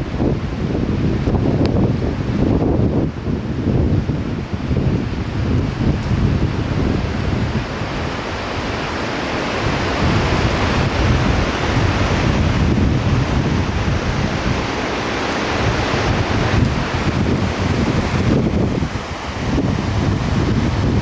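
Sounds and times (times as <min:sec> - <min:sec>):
fast-flowing river water rushing: 0:00.0 - 0:21.0
wind buffeting microphone: 0:00.0 - 0:21.0.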